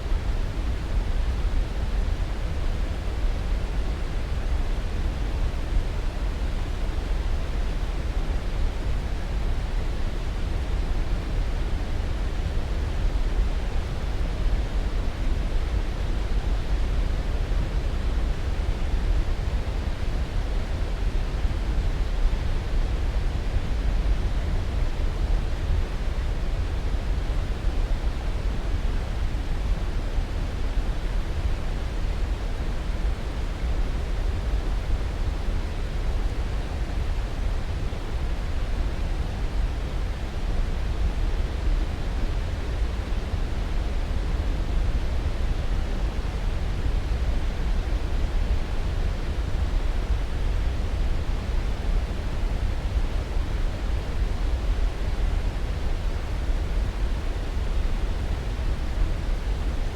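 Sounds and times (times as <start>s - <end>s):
white noise: 0.0s - 59.9s.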